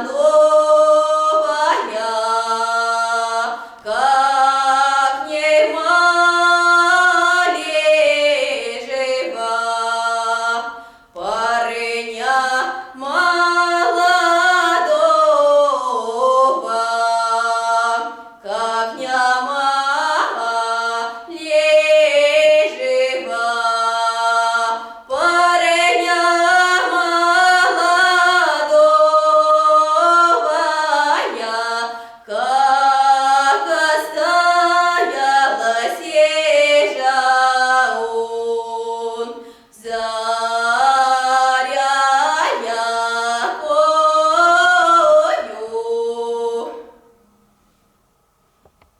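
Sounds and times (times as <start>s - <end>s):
woman singing unaccompanied: 0.0s - 47.1s.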